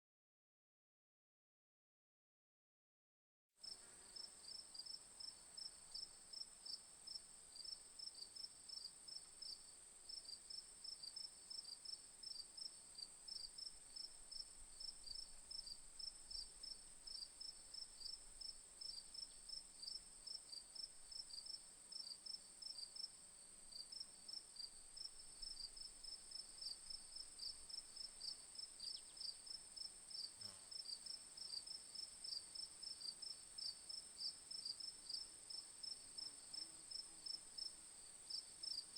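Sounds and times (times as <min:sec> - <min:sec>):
crickets chirping: 0:03.6 - 0:38.9.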